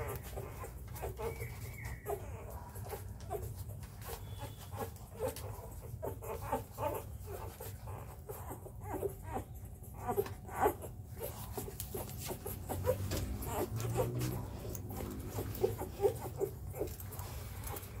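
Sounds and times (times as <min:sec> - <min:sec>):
puppies squeaking and whimpering: 0:00.0 - 0:18.0.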